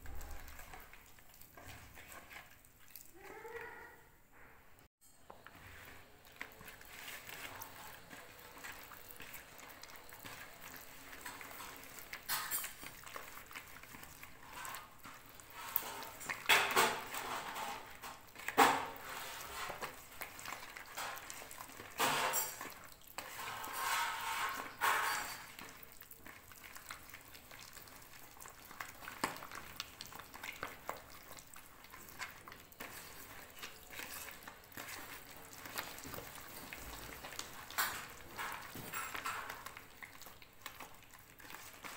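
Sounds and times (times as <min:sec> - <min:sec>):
hand squishing butter: 0:00.0 - 0:03.8, 0:05.5 - 0:41.9
rubbing and scraping against bowl: 0:00.0 - 0:03.8, 0:05.2 - 0:41.9.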